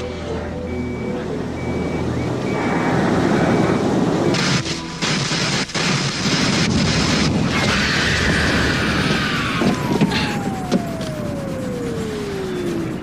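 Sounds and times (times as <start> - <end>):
falling whine: 0.0 - 5.2, 6.7 - 13.0
dense rushing noise: 2.5 - 13.0.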